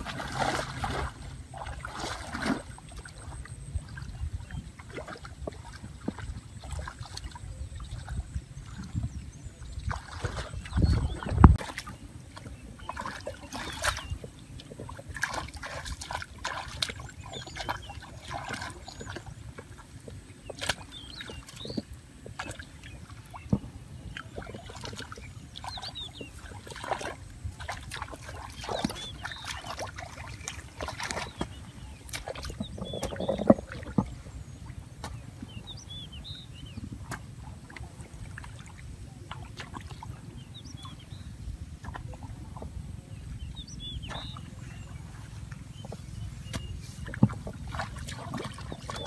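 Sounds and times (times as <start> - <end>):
small birds chirping: 0.0 - 49.0
water sloshing and splashing: 0.0 - 49.0.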